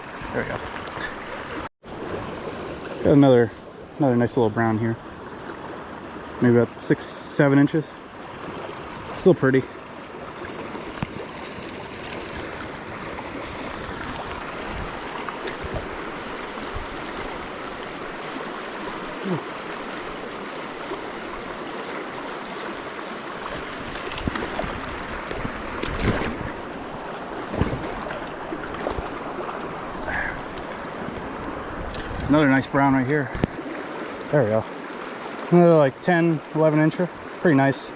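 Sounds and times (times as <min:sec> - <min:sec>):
stream rushing: 0:00.0 - 0:37.9.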